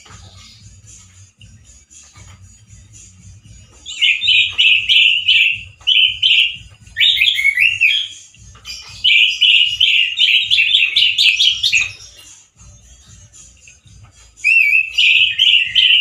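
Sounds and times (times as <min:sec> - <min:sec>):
thrush singing: 0:00.0 - 0:16.0.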